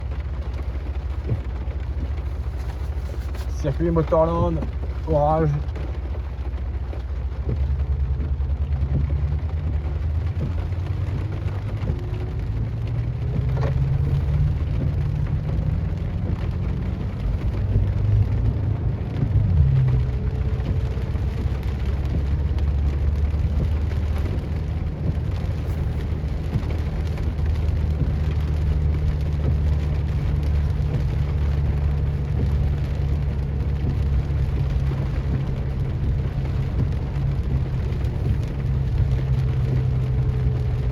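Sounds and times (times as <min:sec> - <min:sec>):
car engine running: 0:00.0 - 0:40.9
rain hissing: 0:00.0 - 0:40.9.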